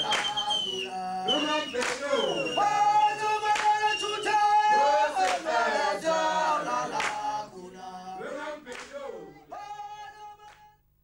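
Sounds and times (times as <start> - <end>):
male choir singing: 0.0 - 10.5.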